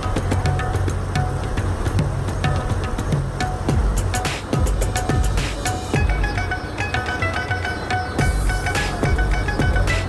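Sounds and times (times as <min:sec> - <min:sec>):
steady low bass: 0:00.0 - 0:06.6, 0:08.2 - 0:10.0.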